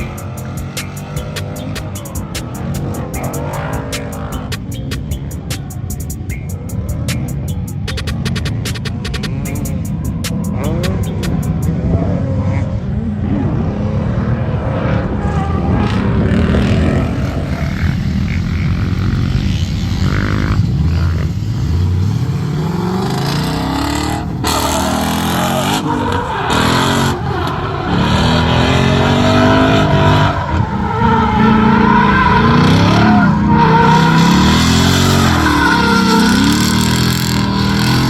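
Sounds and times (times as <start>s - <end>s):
car engine revving: 0.0s - 38.0s
tyre noise: 0.0s - 38.0s.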